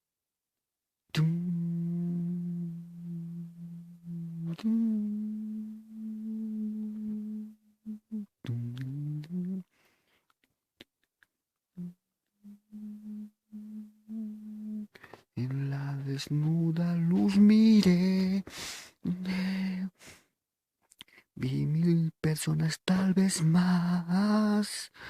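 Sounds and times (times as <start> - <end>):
person humming: 1.1 - 9.7, 11.7 - 20.0, 21.4 - 25.0.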